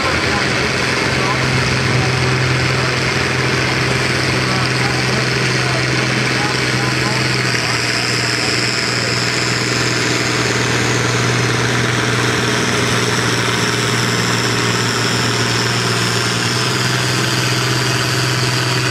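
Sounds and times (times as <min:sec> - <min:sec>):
high whine: 0:00.0 - 0:18.9
tractor engine under load: 0:00.0 - 0:18.9.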